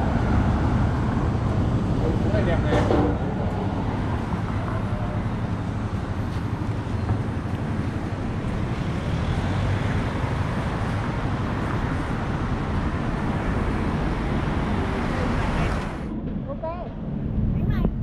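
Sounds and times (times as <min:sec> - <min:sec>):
vehicle rumble and hiss: 0:00.0 - 0:16.1.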